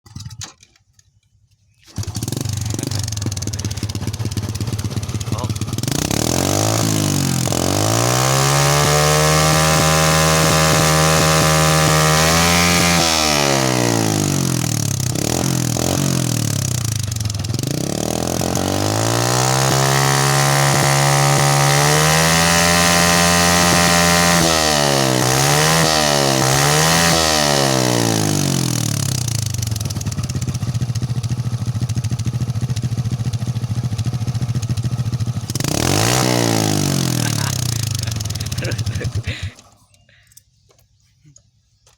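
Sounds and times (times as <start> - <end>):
motorcycle engine revving and idling: 0.0 - 1.3, 1.9 - 40.0.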